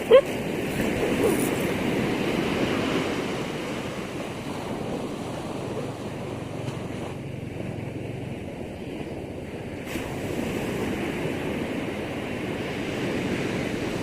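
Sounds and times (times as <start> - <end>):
ocean wave breaking: 0.0 - 14.0.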